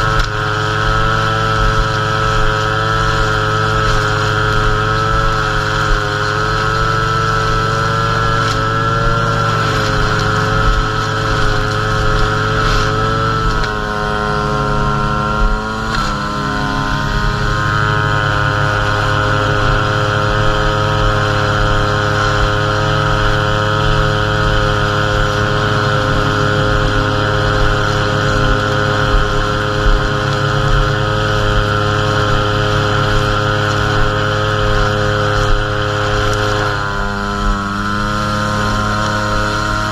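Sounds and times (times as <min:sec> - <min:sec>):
string trimmer engine running: 0:00.0 - 0:39.9.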